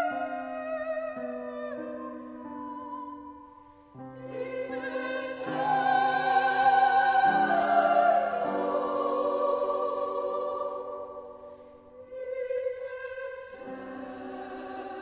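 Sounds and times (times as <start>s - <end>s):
classical singers with vibrato: 0.0s - 15.0s.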